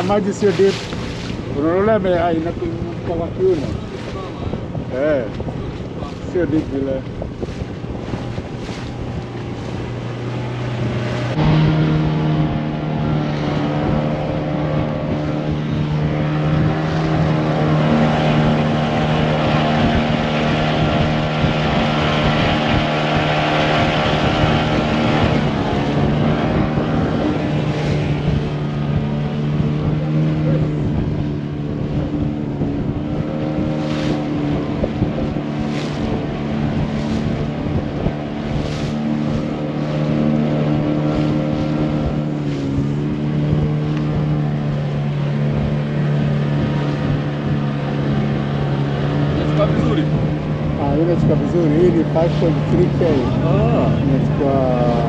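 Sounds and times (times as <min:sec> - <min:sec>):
motorboat engine running: 0:00.0 - 0:55.0.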